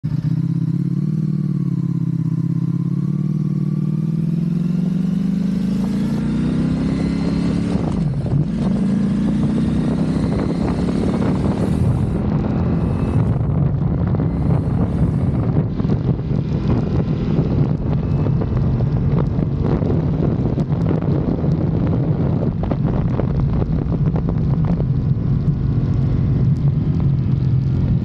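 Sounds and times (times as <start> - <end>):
motorcycle engine revving: 0.0 - 28.0
wind on microphone: 4.1 - 28.0.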